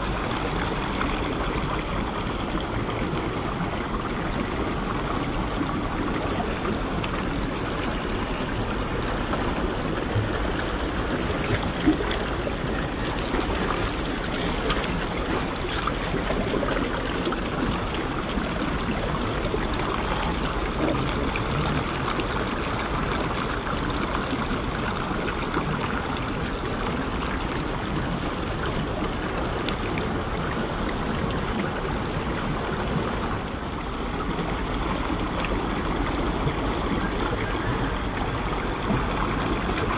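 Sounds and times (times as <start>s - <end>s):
stream water running over rock: 0.0s - 39.9s.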